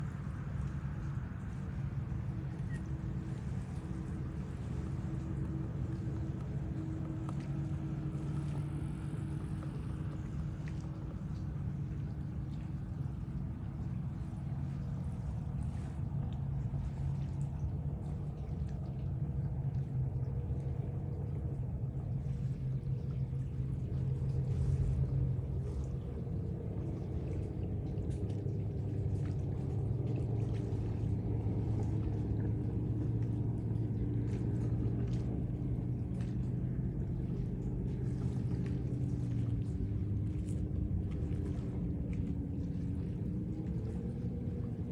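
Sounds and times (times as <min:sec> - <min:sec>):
engine droning: 0:00.0 - 0:44.9.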